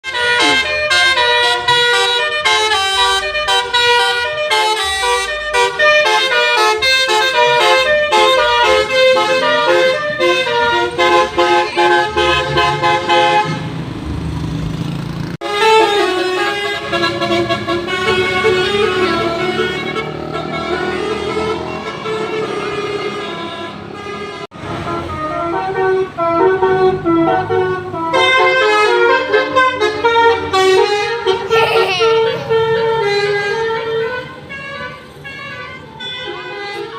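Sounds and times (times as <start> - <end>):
musical horn playing a fast tune: 0.0 - 13.6, 15.4 - 36.9.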